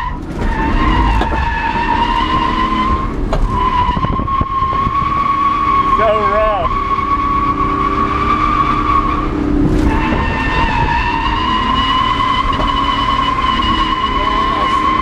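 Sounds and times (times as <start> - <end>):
car engine: 0.0 - 15.0
car tyres squealing: 0.0 - 15.0.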